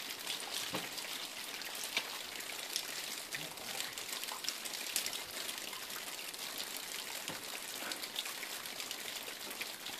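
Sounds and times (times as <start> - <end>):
small water drips: 0.0 - 9.9
water trickling: 0.0 - 9.9.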